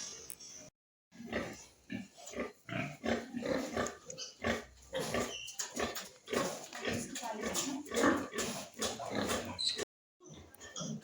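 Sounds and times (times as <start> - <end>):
pigs grunting: 1.2 - 11.0.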